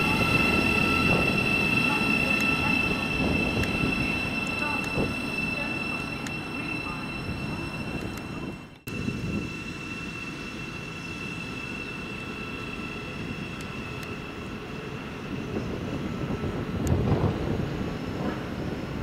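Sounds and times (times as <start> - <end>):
high-pitched whine: 0.0 - 16.7
train low rumble: 0.0 - 19.0.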